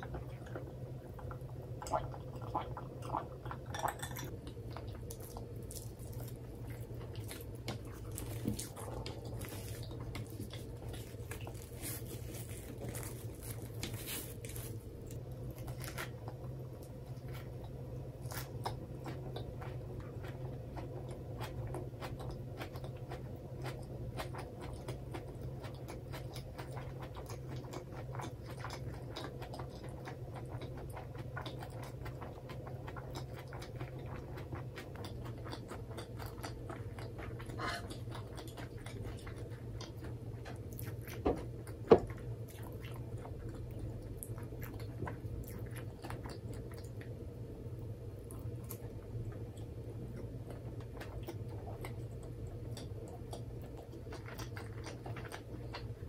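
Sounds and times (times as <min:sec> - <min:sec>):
steady low hum: 0:00.0 - 0:56.0
chewing crisp lettuce: 0:04.4 - 0:56.0.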